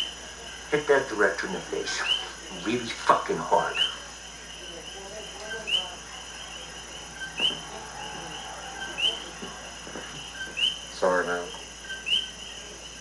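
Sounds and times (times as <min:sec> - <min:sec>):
birds or insects chirping: 0:00.0 - 0:13.0.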